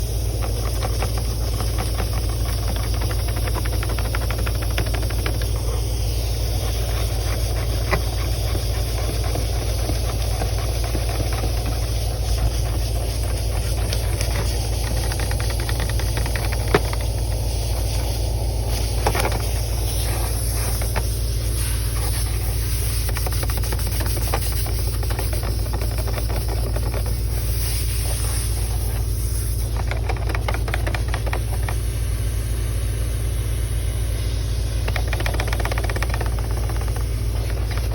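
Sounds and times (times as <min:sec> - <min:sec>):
fine rattling: 0:00.0 - 0:31.8
motor hum: 0:00.0 - 0:37.9
rushing air hiss: 0:00.0 - 0:37.9.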